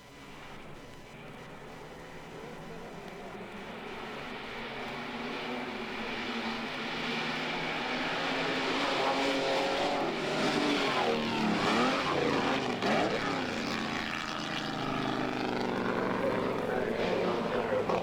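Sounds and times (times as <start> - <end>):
racing car engines passing: 0.1 - 18.0.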